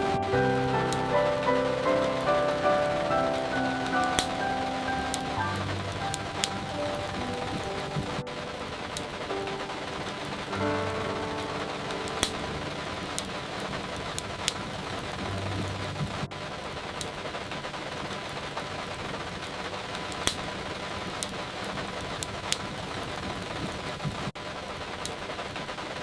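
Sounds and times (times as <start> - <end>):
steady rain: 0.0 - 26.0
wood fire popping and crackling: 0.0 - 26.0.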